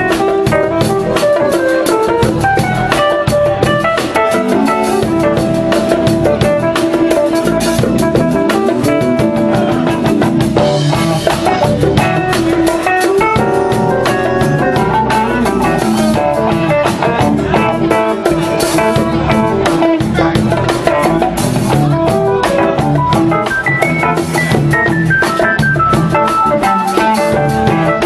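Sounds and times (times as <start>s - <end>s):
drum kit beat: 0.0s - 28.0s
live band playing soul music: 0.0s - 28.0s.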